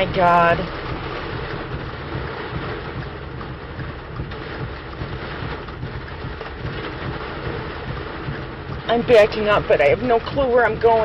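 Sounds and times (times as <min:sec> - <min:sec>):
wind and rain against car: 0:00.0 - 0:11.0.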